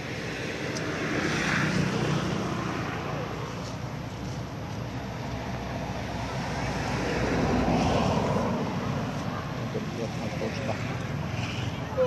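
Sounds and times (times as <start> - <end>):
vehicle passing on road: 0.0 - 12.0.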